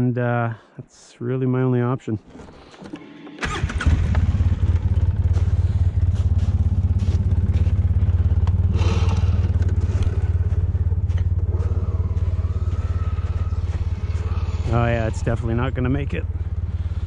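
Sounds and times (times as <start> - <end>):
engine idling: 2.7 - 17.0.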